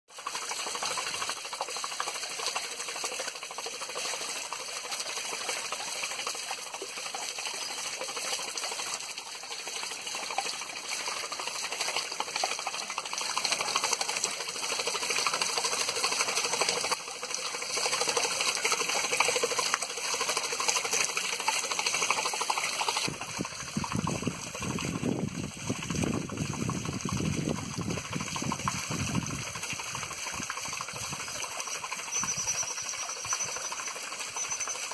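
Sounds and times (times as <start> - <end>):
water splashing off waterwheel: 0.1 - 34.9.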